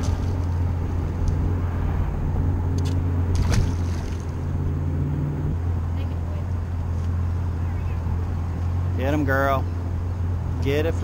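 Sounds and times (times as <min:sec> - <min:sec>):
outboard motor idling: 0:00.0 - 0:01.5, 0:02.3 - 0:11.0.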